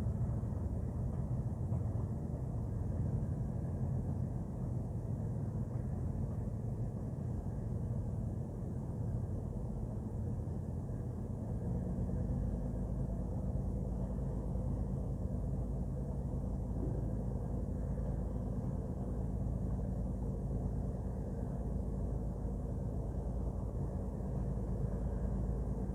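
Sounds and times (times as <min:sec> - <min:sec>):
ship engine rumbling: 0:00.0 - 0:25.9.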